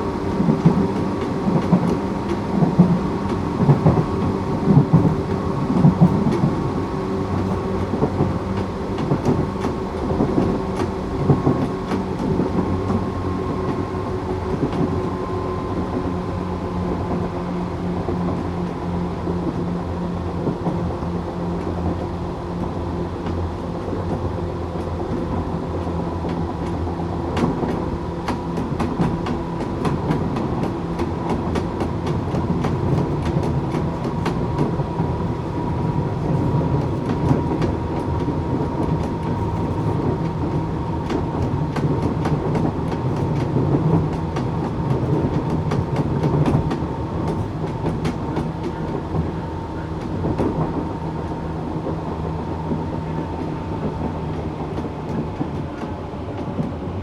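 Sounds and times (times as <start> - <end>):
rail joint clicks: 0.0 - 57.0
train motors and wheels rumbling: 0.0 - 57.0.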